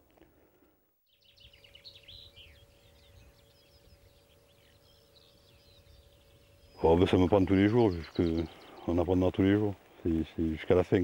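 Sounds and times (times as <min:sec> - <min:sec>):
faint steady hum: 0:00.0 - 0:11.0
birds chirping and trilling: 0:01.0 - 0:11.0.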